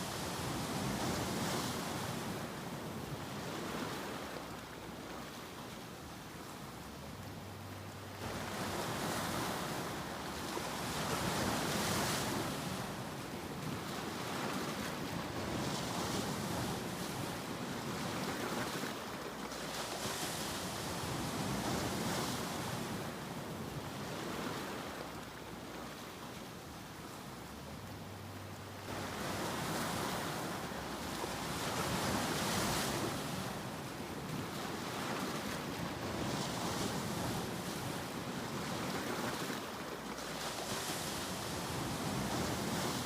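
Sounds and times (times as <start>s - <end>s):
ocean waves washing: 0.0s - 43.0s.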